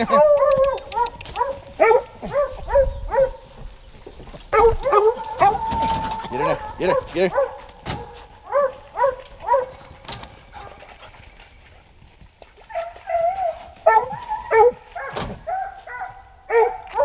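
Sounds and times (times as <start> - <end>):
hounds whining and yelping: 0.0 - 3.5, 4.5 - 11.6, 12.6 - 17.0.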